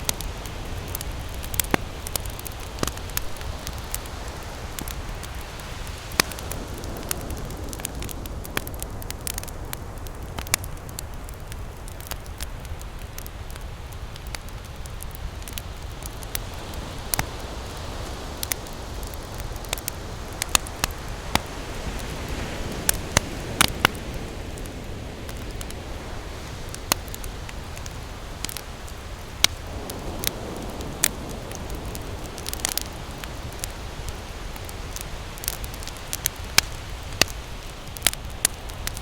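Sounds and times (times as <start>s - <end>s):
ocean waves: 0.0s - 9.5s, 16.3s - 39.0s
campfire crackling and popping: 0.0s - 39.0s.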